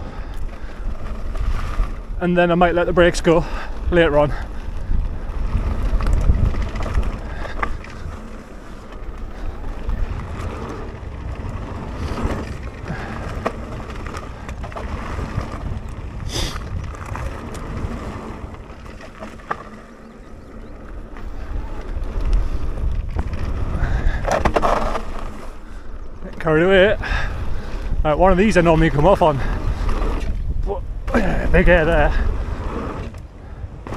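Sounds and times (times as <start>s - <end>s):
bike rattling: 0.0s - 33.9s
bike tyres rumbling on gravel: 0.0s - 33.9s
wind buffeting microphone: 0.0s - 33.9s.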